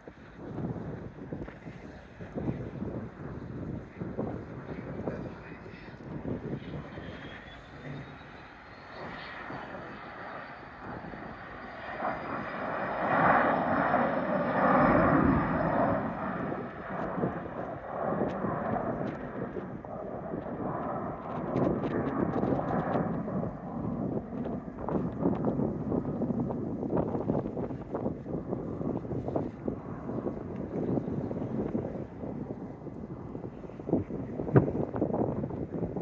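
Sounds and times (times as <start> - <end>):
propeller airplane passing: 2.5 - 36.0.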